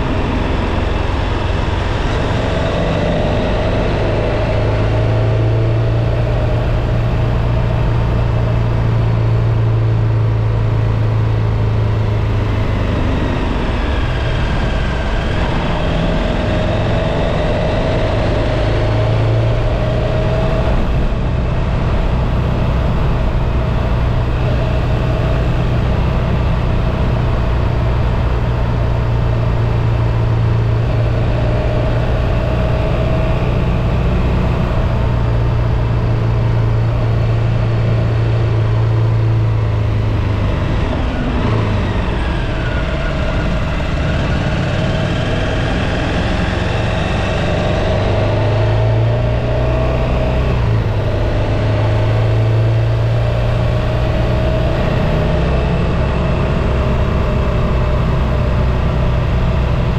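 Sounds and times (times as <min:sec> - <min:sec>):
motorcycle engine humming: 0:00.0 - 0:59.9.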